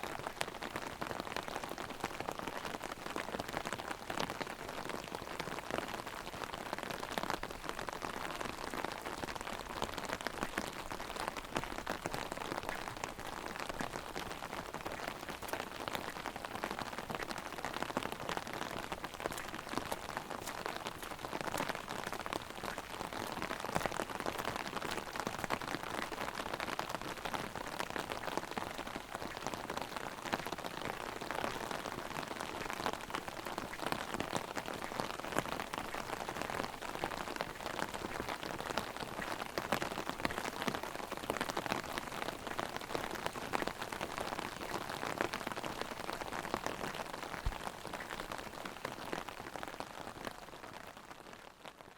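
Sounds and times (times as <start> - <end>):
rain drumming on umbrella: 0.0 - 51.9.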